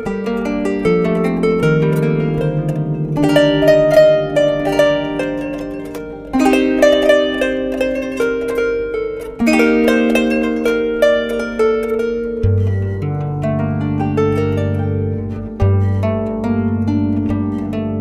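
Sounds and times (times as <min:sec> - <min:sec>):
plucked zither melody: 0:00.0 - 0:18.0.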